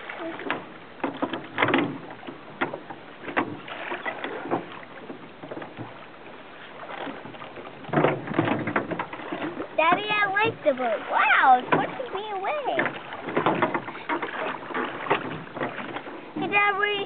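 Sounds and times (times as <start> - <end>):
oars splashing in water: 0.0 - 17.0.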